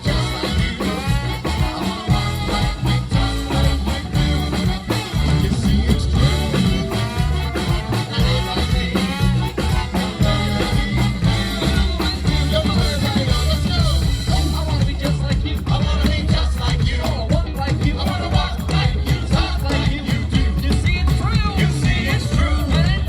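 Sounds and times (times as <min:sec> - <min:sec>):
swing band playing: 0:00.0 - 0:23.0.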